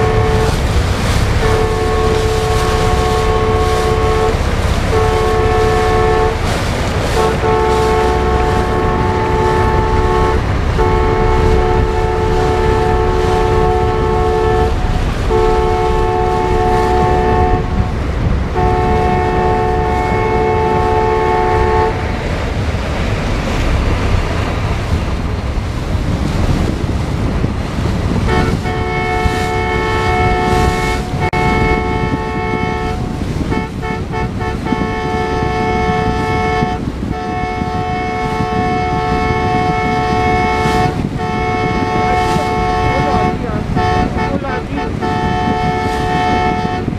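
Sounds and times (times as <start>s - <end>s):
low rumble: 0.0s - 46.9s
ship horns blasting: 0.0s - 46.9s.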